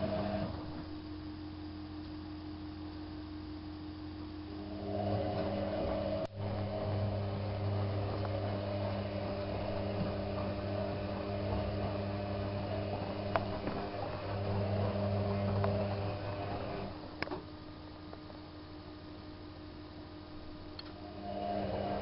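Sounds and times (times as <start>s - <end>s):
washing machine humming whir: 0.0s - 22.0s.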